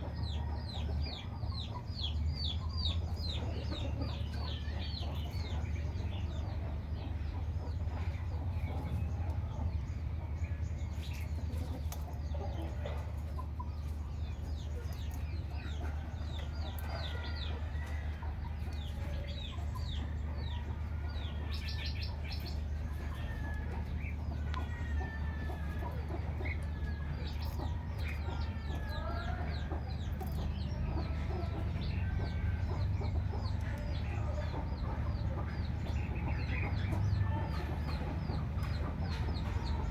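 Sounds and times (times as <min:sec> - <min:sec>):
chicken-like clucking: 0:00.0 - 0:39.9
steady low hum: 0:00.0 - 0:39.9.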